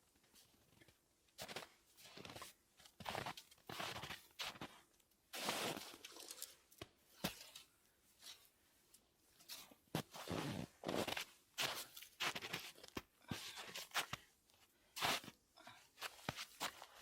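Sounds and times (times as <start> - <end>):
rustling and crunching handling noises: 0.4 - 15.3.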